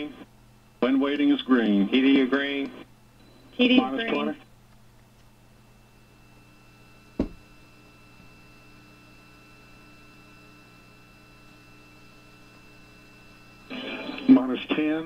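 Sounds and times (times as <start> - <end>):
electrical hum: 0.0 - 15.0
faint steady tones: 0.0 - 15.0.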